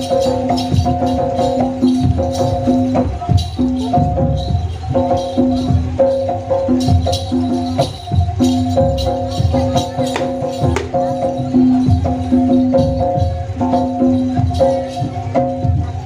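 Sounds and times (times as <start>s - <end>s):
drum strokes: 0.0s - 16.0s
jingling high percussion: 0.0s - 16.0s
metallic pitched percussion: 0.0s - 16.0s.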